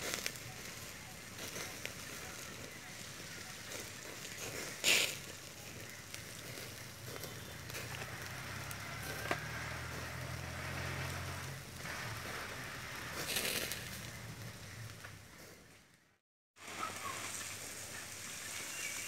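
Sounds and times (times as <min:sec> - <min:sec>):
fire crackling: 0:00.0 - 0:19.0
fire popping: 0:00.0 - 0:19.0.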